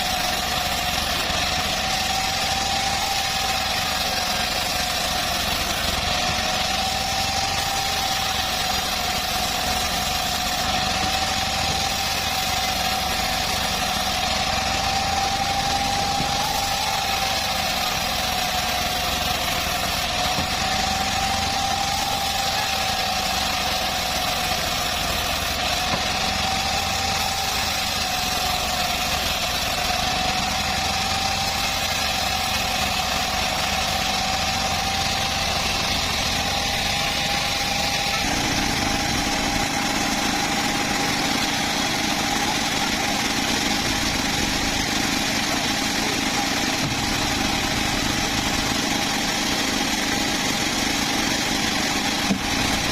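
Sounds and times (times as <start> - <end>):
bandsaw whine: 0.0 - 52.9
sawmill engine running: 0.0 - 52.9.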